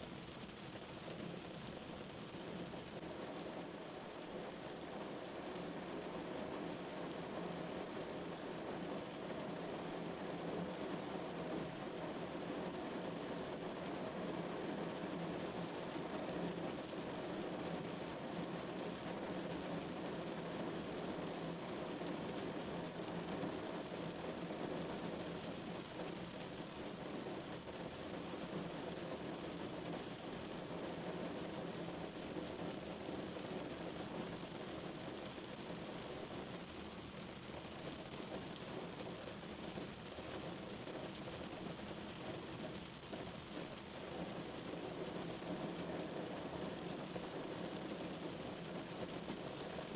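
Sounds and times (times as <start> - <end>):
rain pattering on a car: 0.0 - 49.9.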